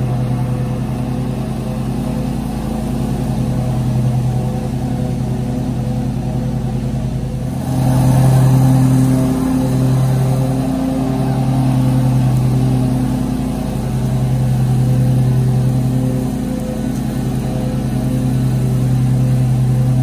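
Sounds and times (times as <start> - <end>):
lawn mower engine running: 0.0 - 20.0.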